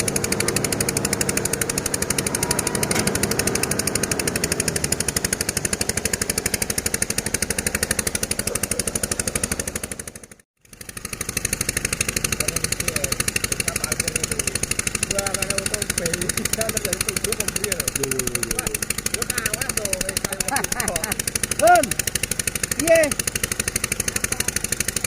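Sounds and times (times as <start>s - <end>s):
engine running with pulsing beat: 0.0s - 25.0s.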